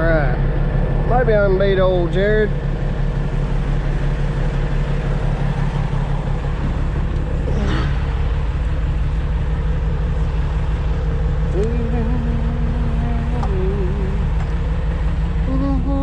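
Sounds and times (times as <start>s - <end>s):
truck engine under load: 0.0s - 16.0s.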